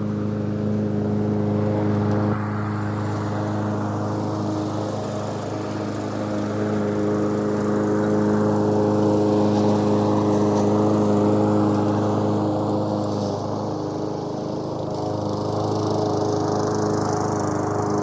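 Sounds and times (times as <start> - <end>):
lawnmower engine running: 0.0 - 18.0.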